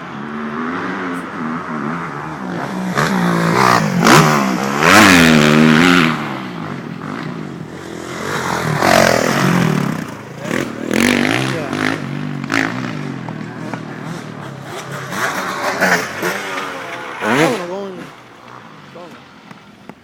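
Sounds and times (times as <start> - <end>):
dirt bike engine revving: 0.0 - 18.8.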